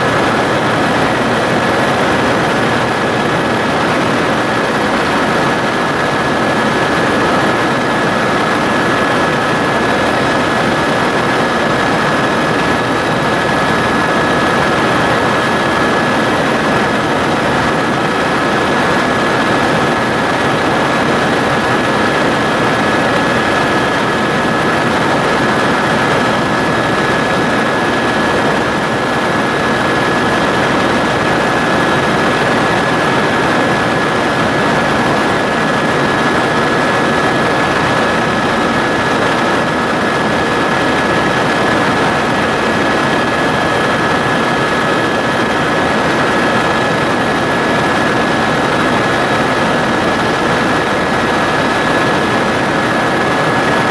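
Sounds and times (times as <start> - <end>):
helicopter engine and rotor drone: 0.0 - 53.9.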